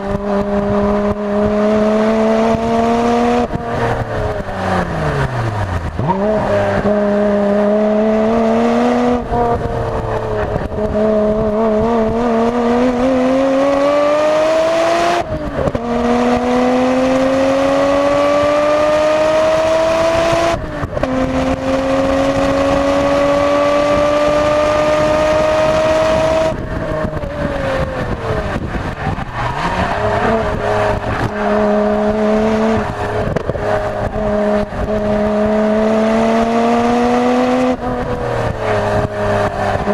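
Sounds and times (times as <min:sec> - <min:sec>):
car engine at full throttle: 0:00.0 - 0:39.9
gear upshifts: 0:00.0 - 0:39.9.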